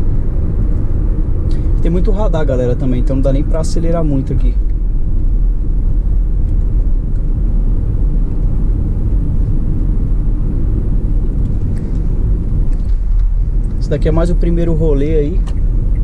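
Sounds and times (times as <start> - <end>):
car engine rumbling: 0.0 - 16.0
road noise: 0.0 - 16.0.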